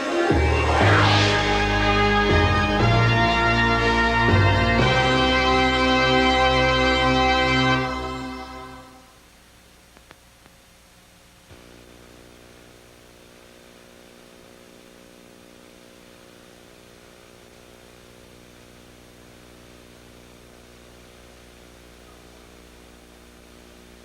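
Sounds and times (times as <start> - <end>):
tape hiss: 0.0 - 4.0, 7.7 - 24.0.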